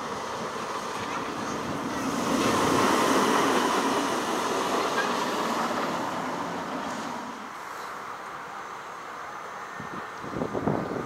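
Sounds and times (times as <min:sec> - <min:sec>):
roller coaster on track: 0:00.0 - 0:11.0.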